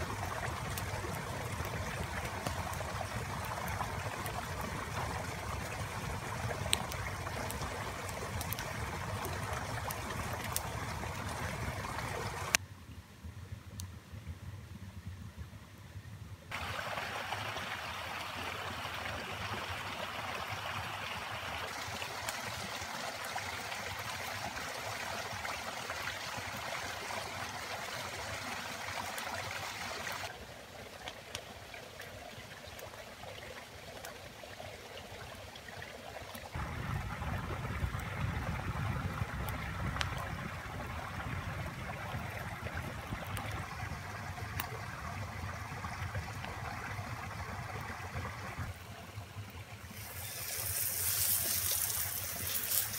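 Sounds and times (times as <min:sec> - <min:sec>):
stream water flowing: 0:00.0 - 0:12.6, 0:16.5 - 0:52.9.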